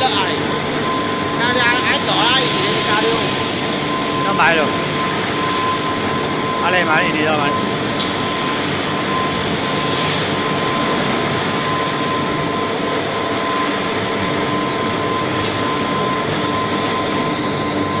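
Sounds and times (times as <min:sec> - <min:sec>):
furnace machinery noise: 0:00.0 - 0:18.0
high-pitched hum: 0:00.0 - 0:18.0.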